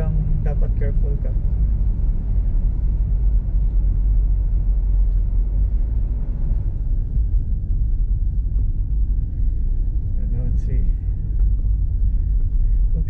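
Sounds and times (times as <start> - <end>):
car driving on snow: 0.0 - 13.0.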